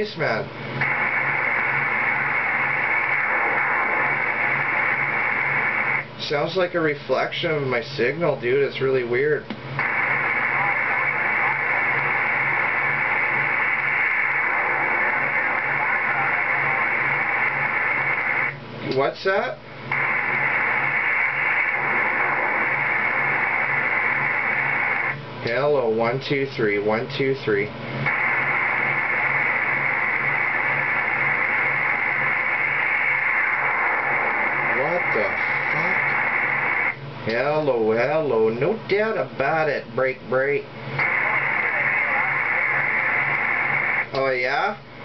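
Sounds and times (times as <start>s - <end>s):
radio whooshing hiss: 0.0s - 45.0s.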